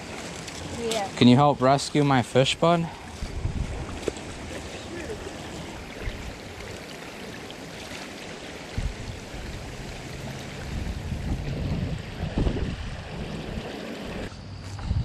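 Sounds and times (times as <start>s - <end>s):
floodwater rushing in river: 0.0s - 14.3s.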